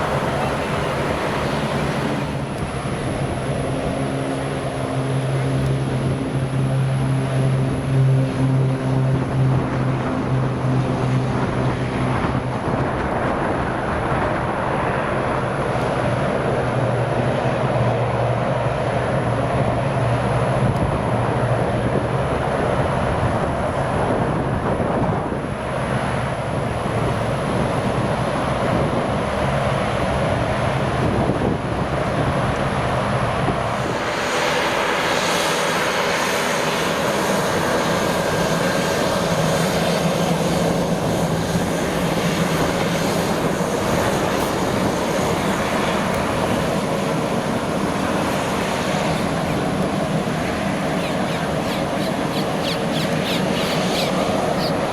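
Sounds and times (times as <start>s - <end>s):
aircraft engines running: 0.0s - 54.9s.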